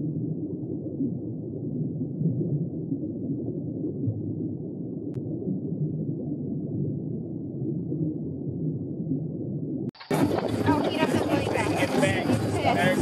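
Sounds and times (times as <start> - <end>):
muffled underwater ambience: 0.0 - 13.0.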